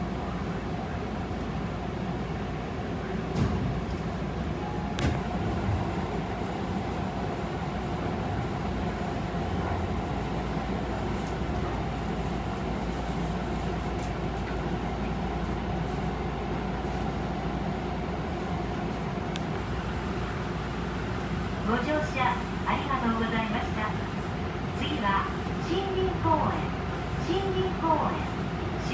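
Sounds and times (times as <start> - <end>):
train wheels rumbling on rails: 0.0 - 28.8.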